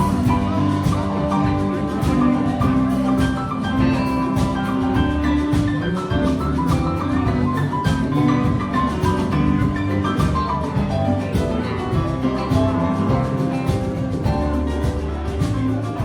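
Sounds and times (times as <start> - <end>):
band playing: 0.0 - 16.0.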